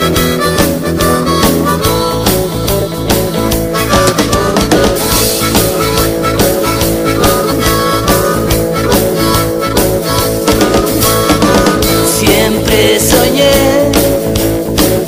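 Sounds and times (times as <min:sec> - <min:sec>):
harmonica: 0:00.0 - 0:15.0
rock guitar and drums: 0:00.0 - 0:15.0.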